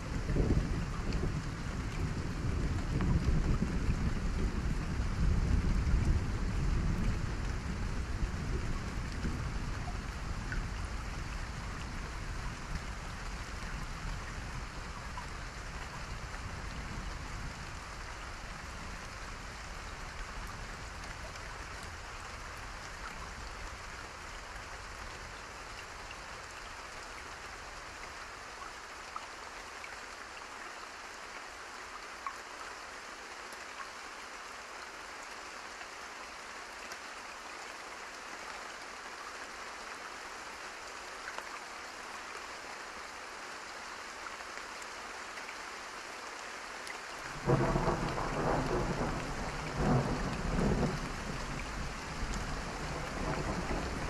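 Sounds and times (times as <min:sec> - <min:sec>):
rain hissing on a surface: 0:00.0 - 0:54.0.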